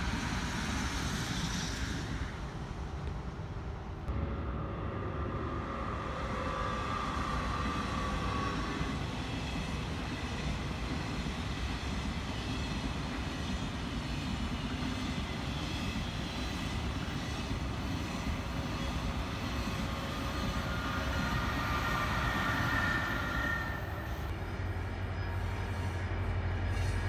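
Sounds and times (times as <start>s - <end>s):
train wheels rushing on rail: 0.0s - 27.0s.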